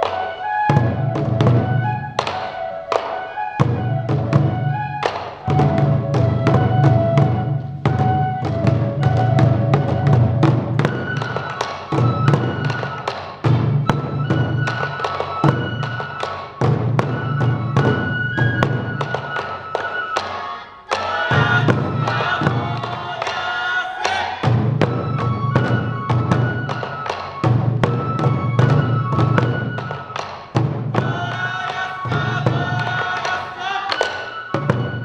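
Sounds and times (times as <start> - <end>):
taiko drums beating rapidly: 0.0 - 19.8, 20.9 - 35.0
high bamboo flutes melody: 0.0 - 35.0.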